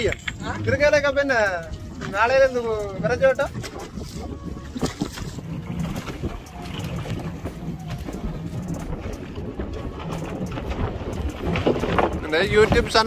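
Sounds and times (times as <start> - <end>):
boat engine hum: 0.0 - 13.0
wind buffeting microphone: 0.0 - 13.0.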